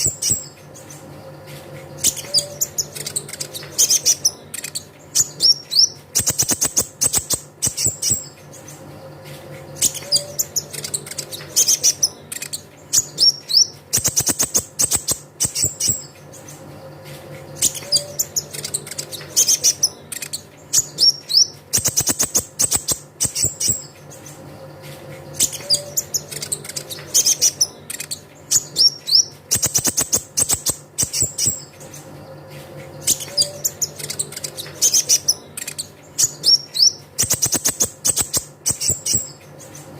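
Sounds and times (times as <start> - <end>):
steady low hum: 0.0 - 39.9
sunbird song with chirps and trills: 0.0 - 39.9.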